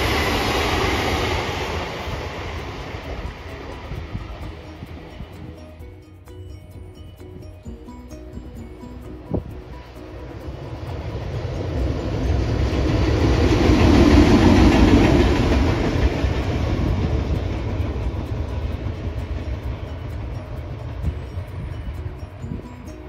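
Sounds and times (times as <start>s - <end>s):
train wheels on rails: 0.0s - 6.6s, 7.2s - 23.0s.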